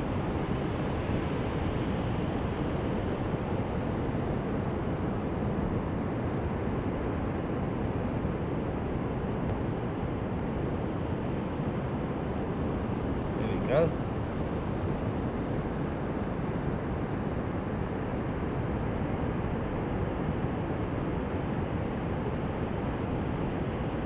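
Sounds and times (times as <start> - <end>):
wind: 0.0 - 24.0.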